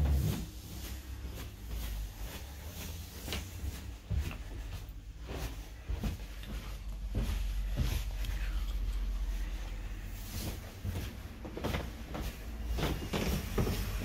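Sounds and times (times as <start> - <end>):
footsteps on carpeted stairs: 0.0 - 14.0.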